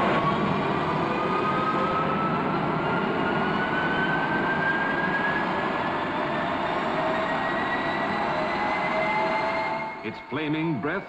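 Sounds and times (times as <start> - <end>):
jet engine roar: 0.0 - 11.0
rising engine whine: 0.0 - 11.0.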